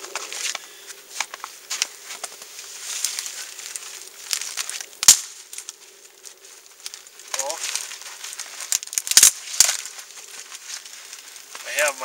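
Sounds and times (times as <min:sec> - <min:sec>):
dry twigs snapping: 0:00.0 - 0:12.0.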